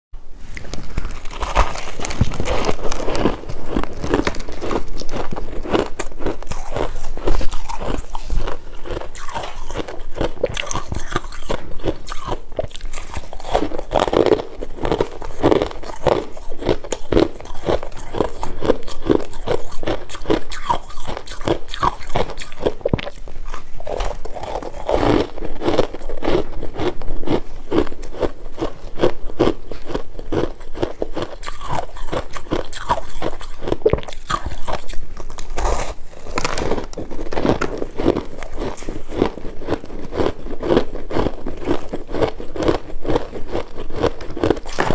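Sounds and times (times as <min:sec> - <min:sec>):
chewing crunchy frost: 0:00.6 - 0:44.9.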